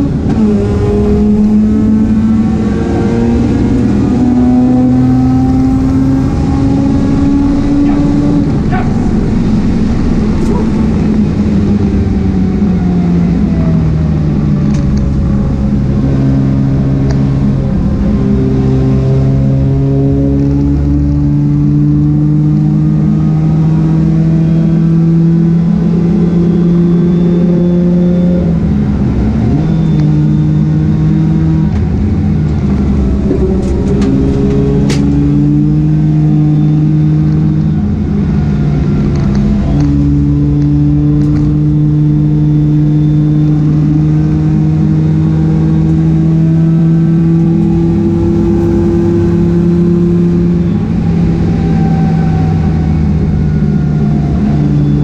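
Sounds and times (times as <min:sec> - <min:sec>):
rotary engine revving: 0:00.0 - 0:55.0.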